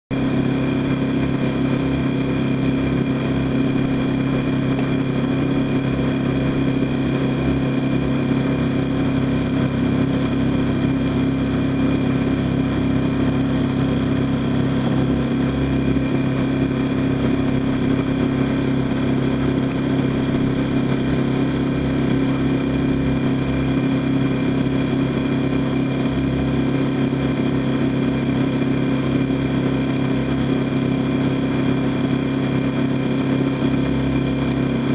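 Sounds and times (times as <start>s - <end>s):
small engine droning: 0.1s - 34.9s.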